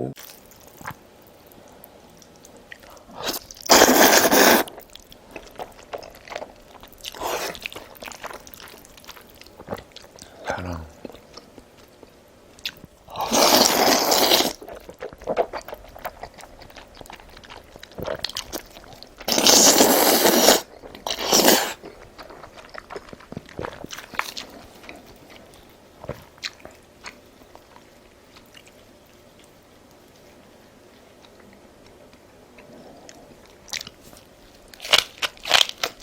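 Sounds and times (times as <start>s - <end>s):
person chewing crunchy food: 0.2s - 36.0s.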